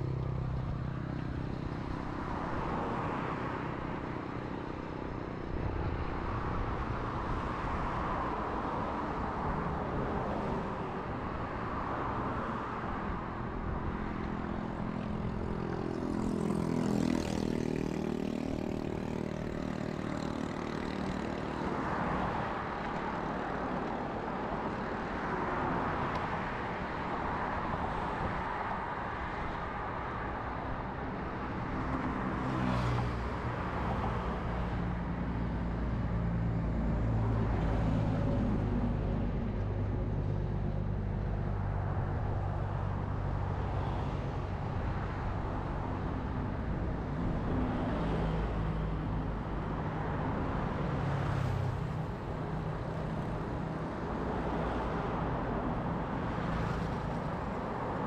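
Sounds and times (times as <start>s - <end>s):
vehicles driving past: 0.0s - 58.0s.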